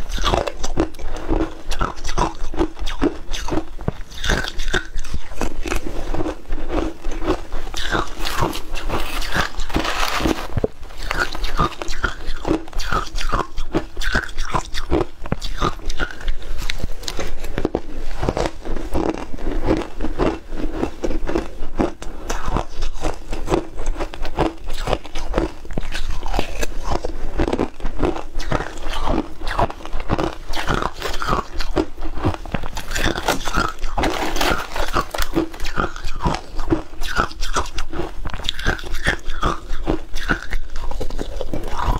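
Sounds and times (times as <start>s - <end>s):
ice being chewed: 0.0s - 41.9s.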